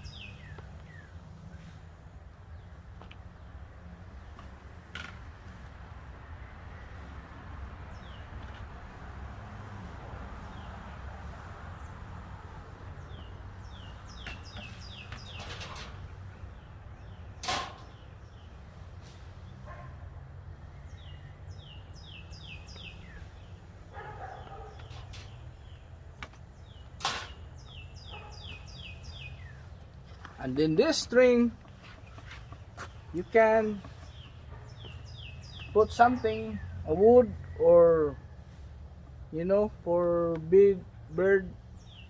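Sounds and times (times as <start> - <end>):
small birds chirping: 0.0 - 9.1, 10.4 - 42.0.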